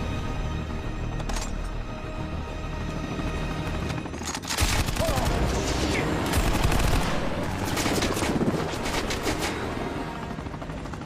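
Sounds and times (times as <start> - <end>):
helicopter noise: 0.0 - 11.0.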